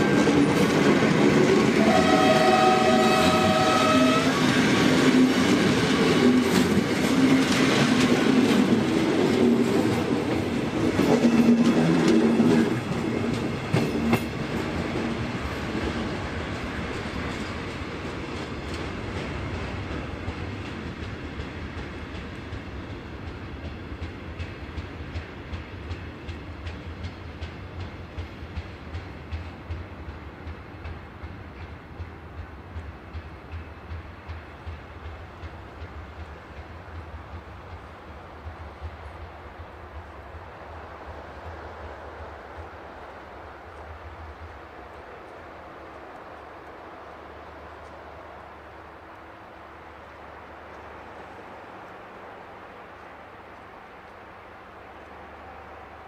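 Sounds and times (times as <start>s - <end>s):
train wheels clattering over rail joints: 0.0s - 46.4s.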